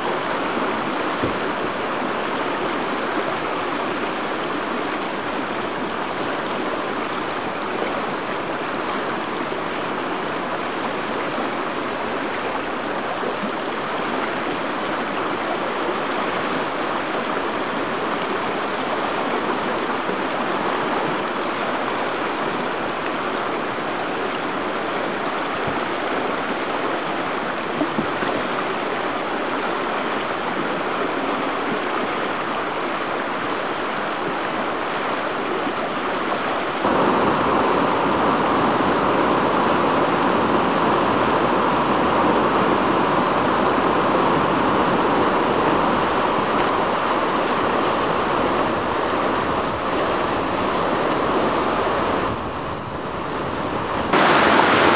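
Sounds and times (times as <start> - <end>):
river rapids rushing: 0.0 - 54.9.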